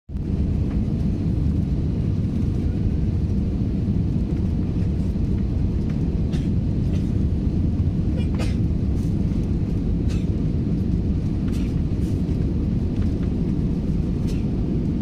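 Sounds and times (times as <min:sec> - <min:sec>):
aircraft engines rumbling: 0:00.1 - 0:15.0
rushing air in cabin: 0:00.1 - 0:15.0.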